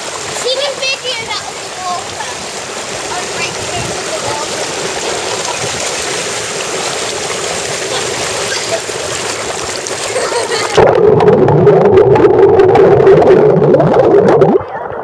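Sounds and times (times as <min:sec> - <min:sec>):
spa jets bubbling and splashing: 0:00.0 - 0:15.0
underwater bubbling: 0:00.0 - 0:15.0.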